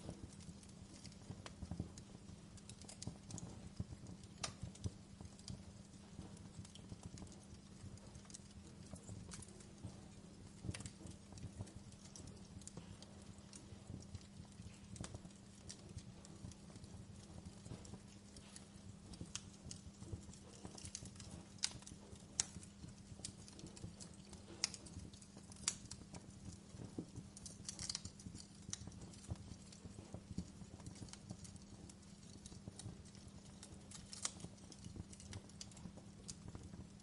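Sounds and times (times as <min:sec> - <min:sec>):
low steady hum: 0:00.0 - 0:37.0
wood fire crackling and popping: 0:00.0 - 0:37.0.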